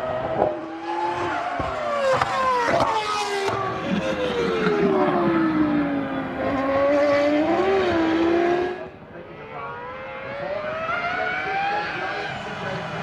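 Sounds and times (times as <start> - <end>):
racing car engine revving: 0.0 - 9.0, 9.6 - 13.0.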